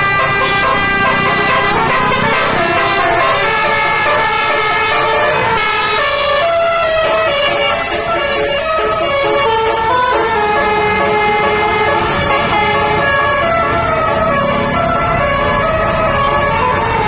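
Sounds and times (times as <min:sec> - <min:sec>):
multi-tone bus air horns: 0:00.0 - 0:17.0.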